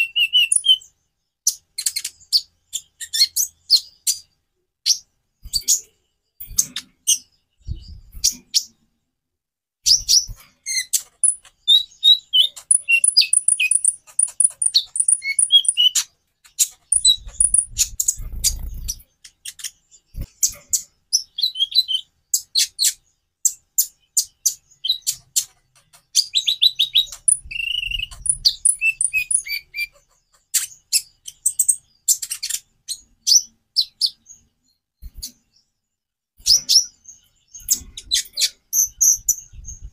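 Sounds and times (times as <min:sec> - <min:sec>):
bird singing chips and trills: 0:00.0 - 0:08.9, 0:09.8 - 0:35.7.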